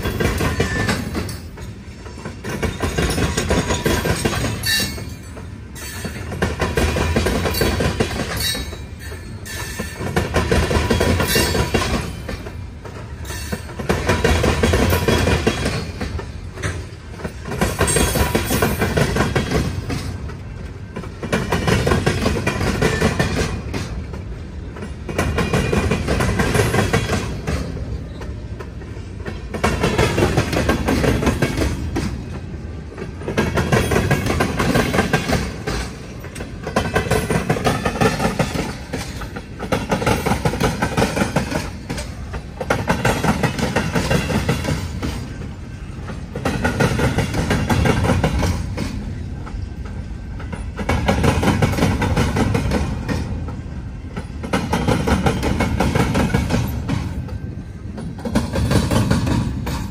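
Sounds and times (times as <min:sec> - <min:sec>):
train wheels clattering over crossing: 0:00.0 - 0:59.9.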